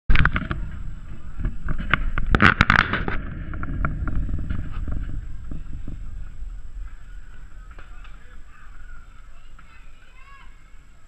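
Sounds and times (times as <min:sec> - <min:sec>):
low rumble on microphone: 0:00.1 - 0:11.0.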